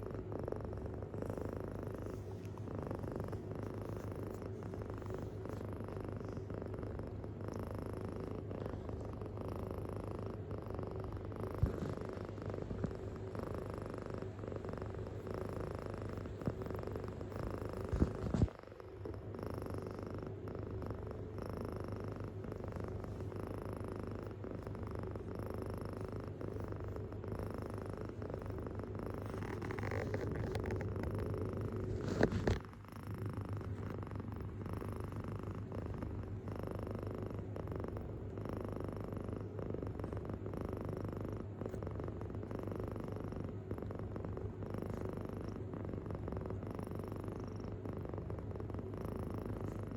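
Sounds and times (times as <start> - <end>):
kitten purring: 0.0 - 49.9.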